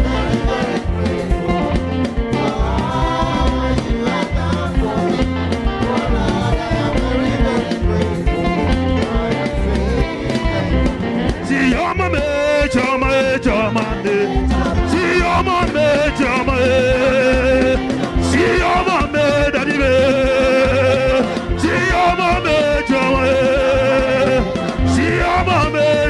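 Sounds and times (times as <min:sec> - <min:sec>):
gospel band playing: 0:00.0 - 0:26.0
people singing: 0:00.0 - 0:26.0.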